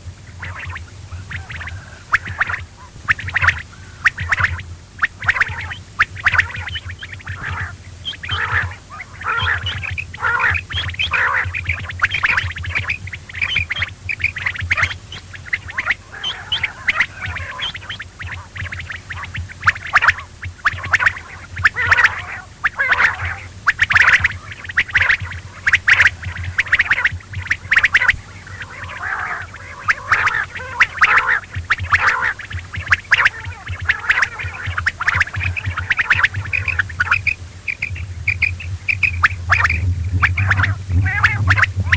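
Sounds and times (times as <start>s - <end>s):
quail calling: 0.0s - 41.9s
steady low hum: 0.0s - 41.9s.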